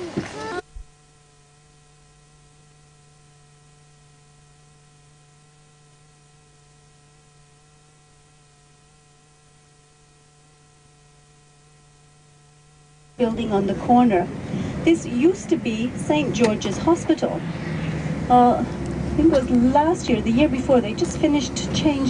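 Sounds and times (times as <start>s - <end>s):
faint steady tones: 0.0s - 22.0s
low hum: 0.0s - 22.0s.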